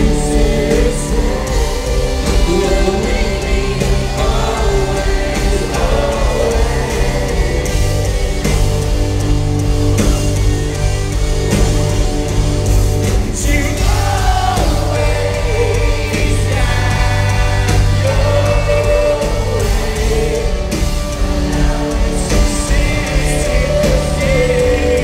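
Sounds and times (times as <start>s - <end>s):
person singing: 0.0s - 8.5s, 13.2s - 25.0s
rock band playing: 0.0s - 25.0s.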